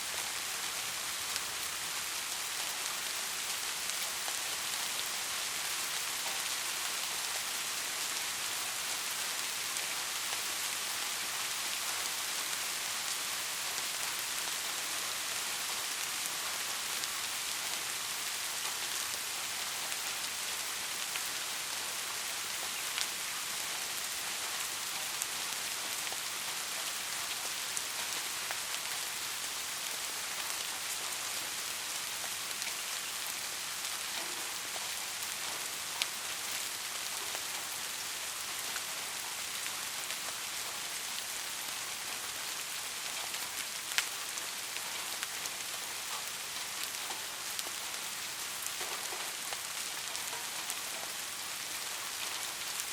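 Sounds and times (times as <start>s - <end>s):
soft rain falling: 0.0s - 52.9s.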